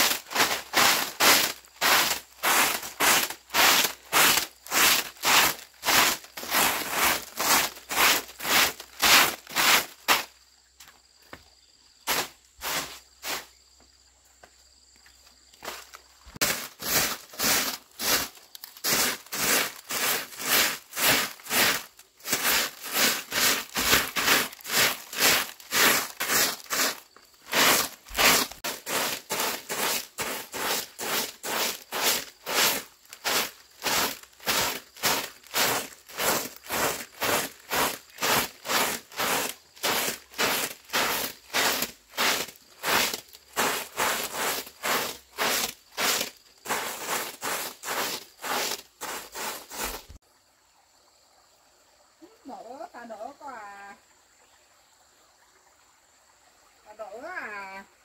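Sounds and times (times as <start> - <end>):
broom sweeping dirt ground: 0.0 - 11.0, 12.0 - 13.6, 15.6 - 50.2.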